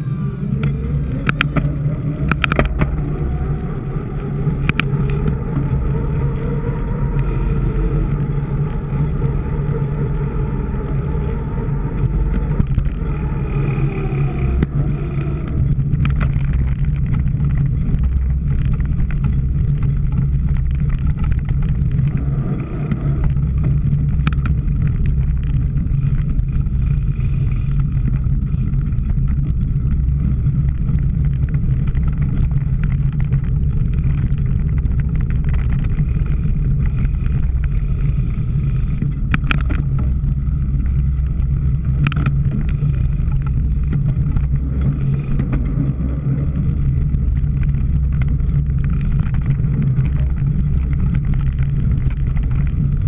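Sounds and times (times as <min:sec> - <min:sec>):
bicycle clicks and rattles: 0:00.0 - 0:53.0
wind rumble on microphone: 0:00.0 - 0:53.0.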